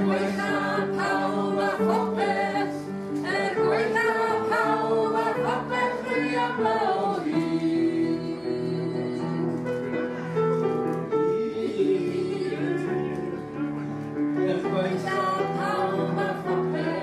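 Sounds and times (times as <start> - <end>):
voices singing: 0.0 - 9.8, 11.1 - 13.7, 14.5 - 17.0.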